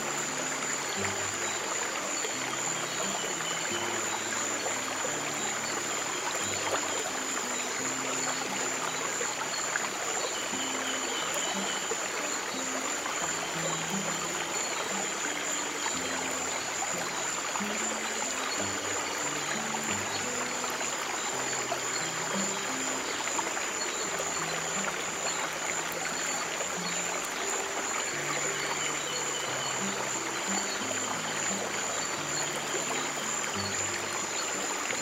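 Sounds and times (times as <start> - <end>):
stream water running: 0.0 - 35.0.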